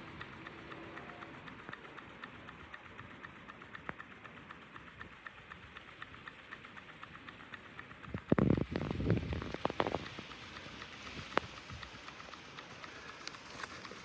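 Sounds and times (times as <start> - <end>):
model steam engine ticking: 0.0 - 14.0
sharp click: 0.0 - 14.0.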